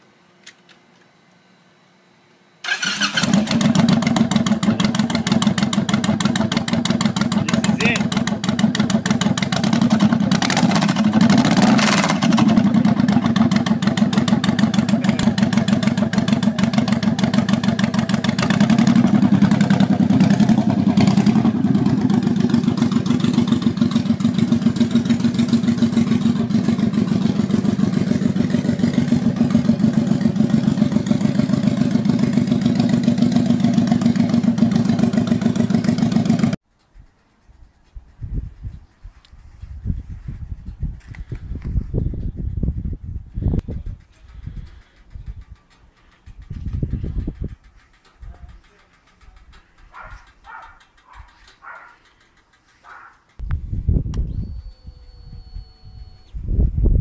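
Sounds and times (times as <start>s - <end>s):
motorcycle engine idling and revving: 2.7s - 57.0s.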